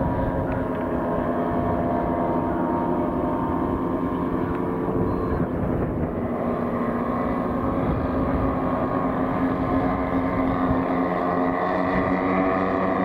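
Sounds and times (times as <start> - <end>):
model airplane engines droning: 0.0 - 13.0.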